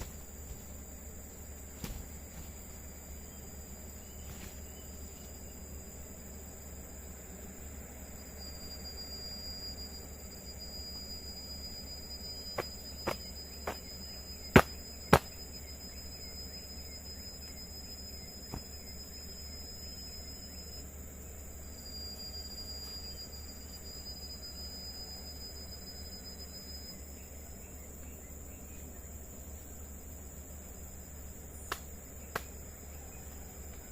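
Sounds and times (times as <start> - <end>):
night insects trilling: 0.0 - 33.9.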